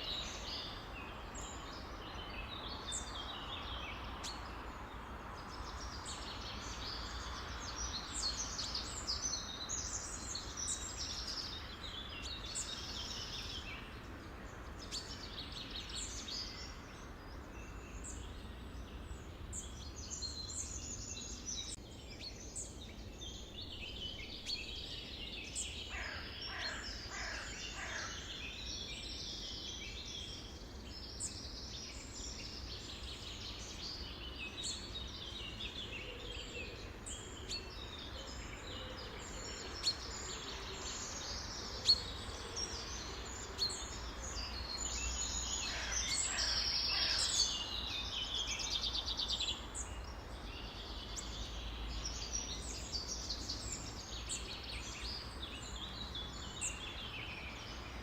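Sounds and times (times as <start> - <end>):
low background hiss: 0.0 - 58.0
songbirds chirping and trilling: 0.0 - 58.0.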